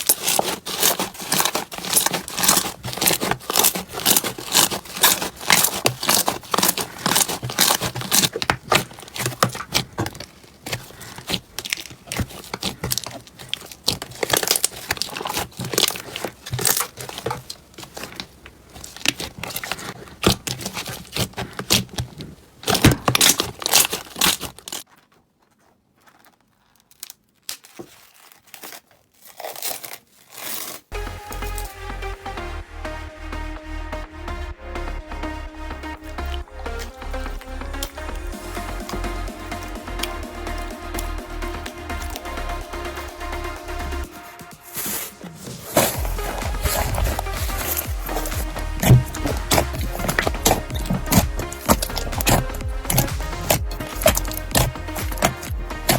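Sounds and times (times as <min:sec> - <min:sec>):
slime crackling and popping: 0:00.0 - 0:24.9, 0:35.8 - 0:55.9.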